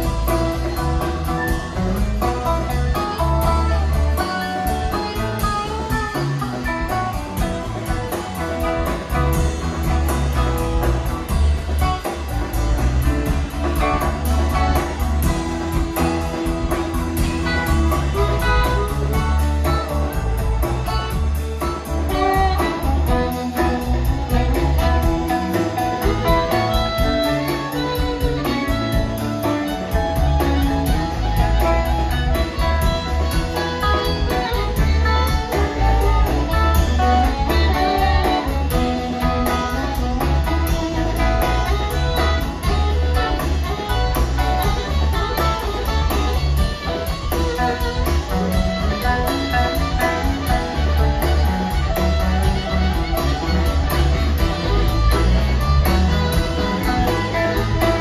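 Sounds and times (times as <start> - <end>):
blues-rock band playing: 0.0 - 58.0
harmonica lead: 0.0 - 58.0.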